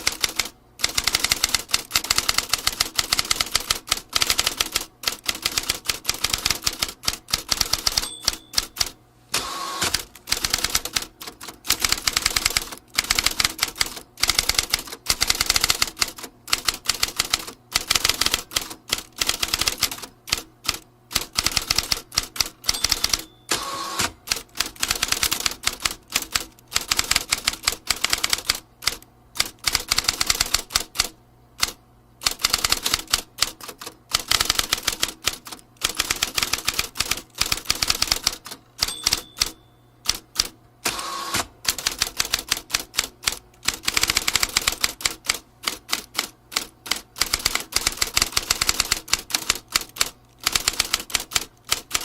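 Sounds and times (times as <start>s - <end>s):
typewriter typing: 0.0s - 52.0s.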